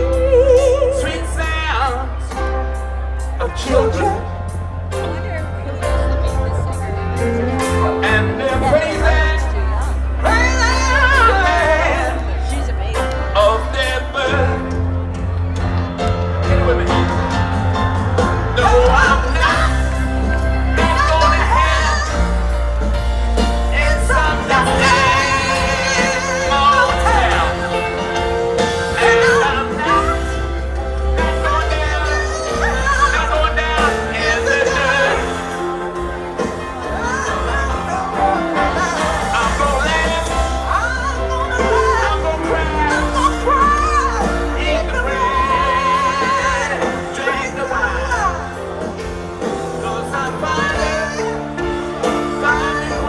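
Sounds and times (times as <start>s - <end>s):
person singing: 0.0s - 5.2s, 6.2s - 53.0s
live band music: 0.0s - 53.0s
steady bass line: 0.0s - 53.0s.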